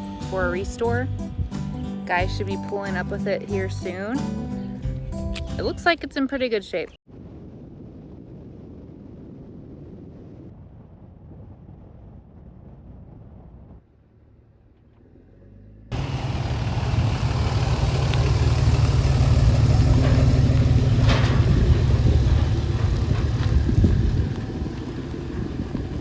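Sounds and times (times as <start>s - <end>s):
motor vehicle low rumble: 0.0s - 6.1s, 7.1s - 26.0s
road and wind noise: 0.0s - 26.0s.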